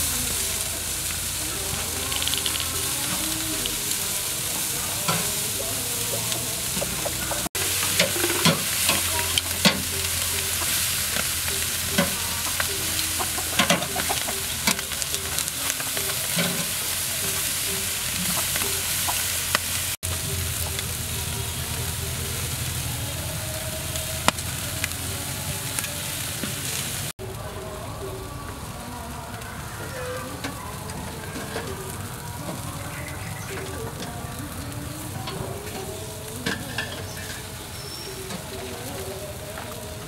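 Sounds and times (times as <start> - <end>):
meat sizzling on a grill: 0.0 - 40.0.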